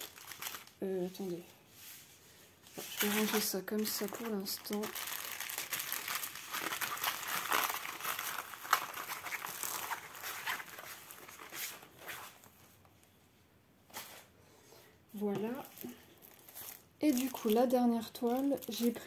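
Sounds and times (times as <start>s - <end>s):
canvas rustling and crinkling: 0.0s - 13.1s, 15.2s - 19.0s.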